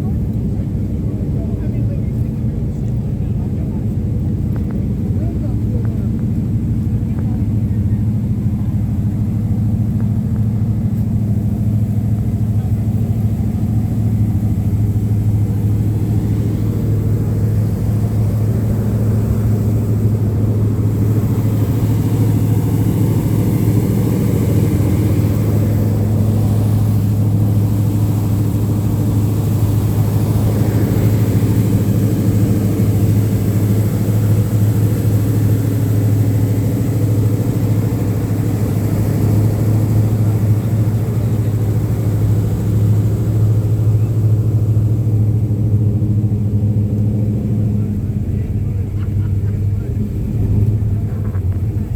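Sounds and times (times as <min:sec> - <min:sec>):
car engine and road rumble: 0:00.0 - 0:51.9.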